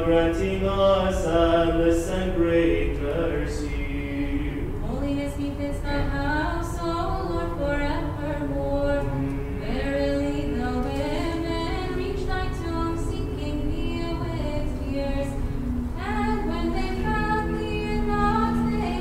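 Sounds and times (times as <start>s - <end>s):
choir singing a cappella: 0.0s - 19.0s.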